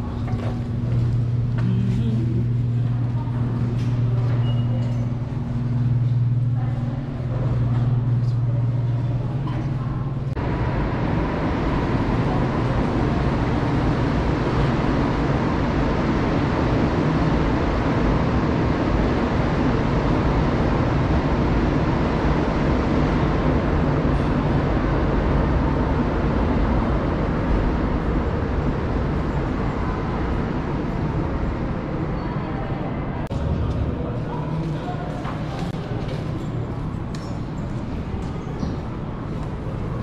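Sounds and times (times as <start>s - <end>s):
metro train hum and rush: 0.0s - 40.0s.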